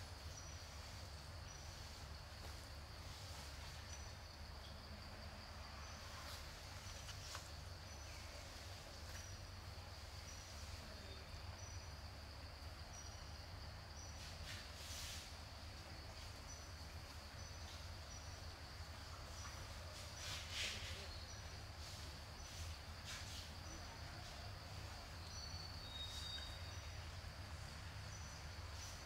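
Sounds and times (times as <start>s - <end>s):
insect chirps: 0.0s - 29.0s
insects droning: 0.0s - 29.0s
soft hiss: 0.0s - 29.0s.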